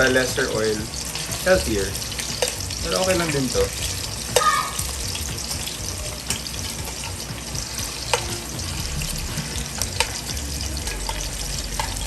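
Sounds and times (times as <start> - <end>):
meatballs sizzling in oil: 0.0 - 12.0
oil popping: 0.0 - 12.0.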